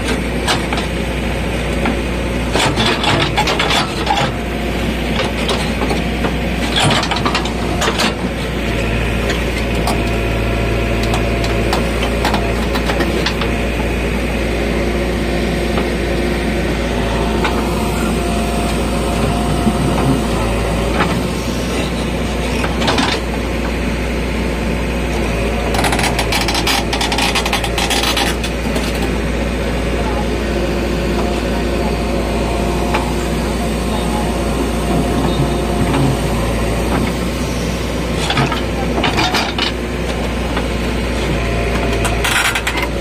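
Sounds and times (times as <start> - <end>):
diesel engine under load: 0.0 - 43.0.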